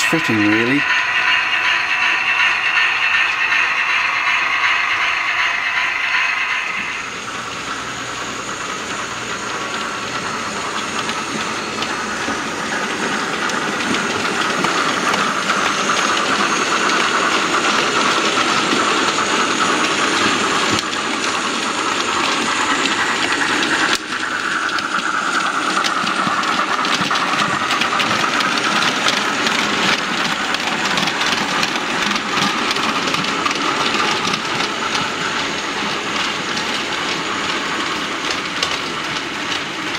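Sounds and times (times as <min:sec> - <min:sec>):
model steam train hissing: 0:00.0 - 0:39.9
wheels clattering over track: 0:01.1 - 0:39.9.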